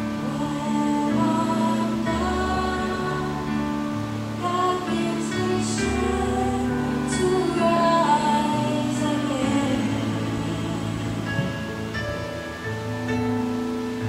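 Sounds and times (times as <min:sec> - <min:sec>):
woman singing gospel song: 0:00.0 - 0:11.8
slow bass line: 0:00.0 - 0:14.0
soft held chords: 0:00.0 - 0:14.0.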